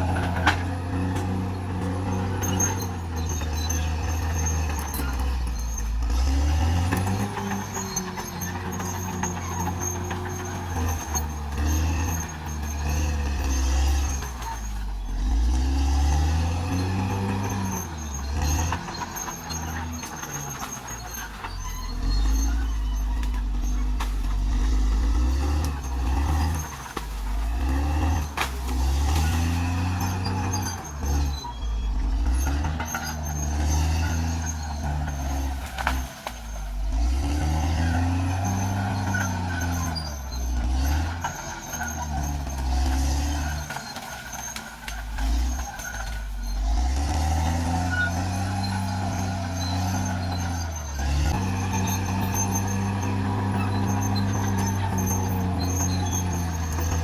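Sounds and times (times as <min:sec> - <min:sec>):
bulldozer diesel engine working: 0:00.0 - 0:57.0.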